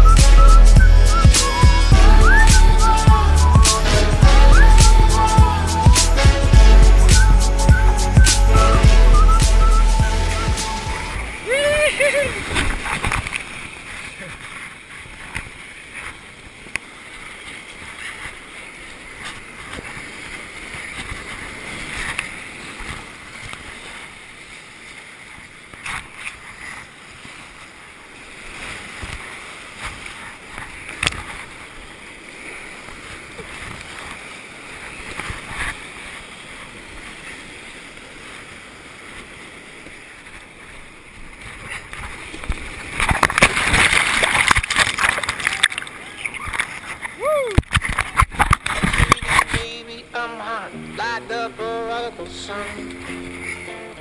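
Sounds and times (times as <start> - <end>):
river water rushing: 0.0 - 54.0
splashing around kayak: 10.1 - 54.0.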